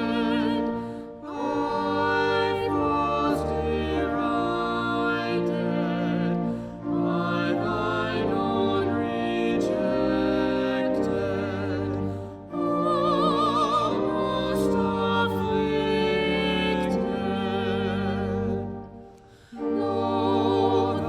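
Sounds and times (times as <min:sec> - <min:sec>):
classical singing with vibrato: 0:00.0 - 0:21.0
sustained accompaniment: 0:00.0 - 0:21.0.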